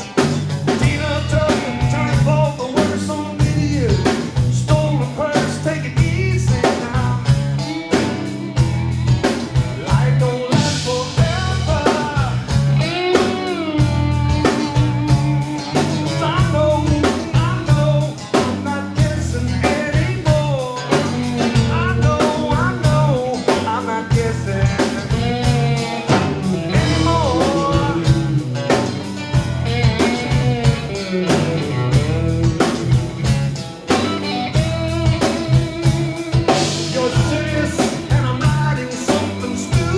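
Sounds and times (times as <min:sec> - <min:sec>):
continuous drumming: 0:00.0 - 0:39.9
live blues band playing: 0:00.0 - 0:39.9.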